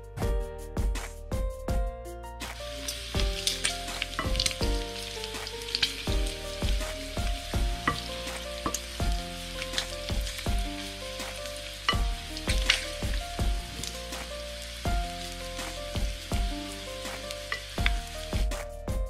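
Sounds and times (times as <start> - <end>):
plucked background music: 0.0 - 19.0
meat sizzling in hot fat: 2.5 - 18.7.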